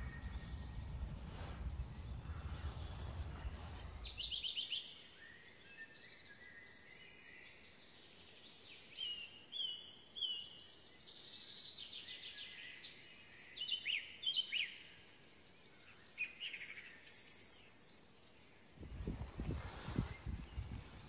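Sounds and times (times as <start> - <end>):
faint steady hiss: 0.0 - 21.0
songbirds singing: 0.0 - 21.0.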